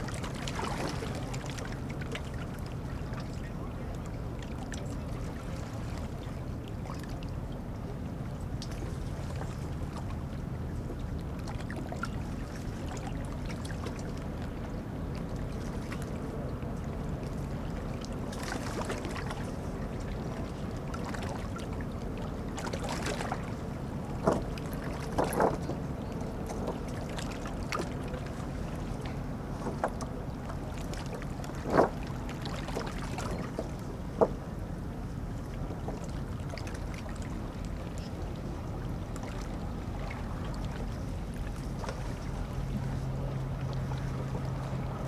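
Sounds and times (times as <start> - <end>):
low drone of boat engines: 0.0 - 45.0.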